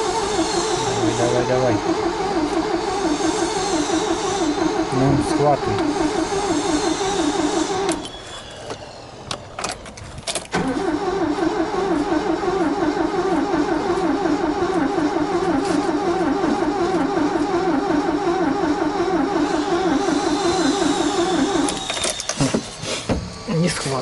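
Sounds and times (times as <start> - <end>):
starter cranking engine: 0.0 - 22.6.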